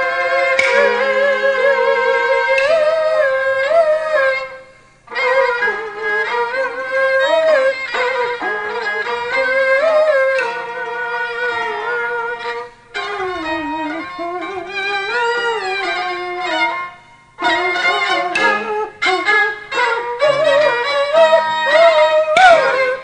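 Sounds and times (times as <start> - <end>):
bowed fiddle ornamented melody: 0.0 - 23.0.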